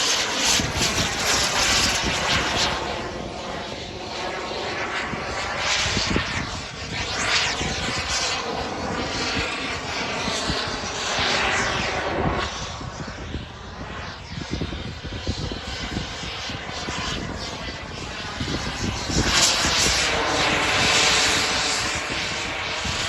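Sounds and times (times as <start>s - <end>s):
model jet turbine whine: 0.0s - 23.0s.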